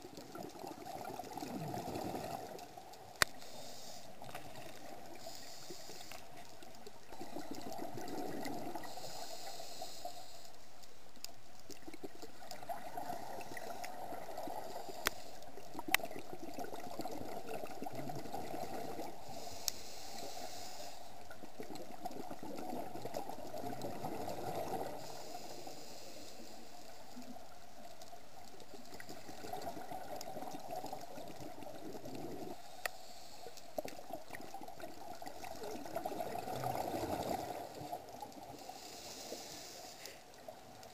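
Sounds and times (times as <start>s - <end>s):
muffled underwater water gurgling: 0.0s - 40.9s.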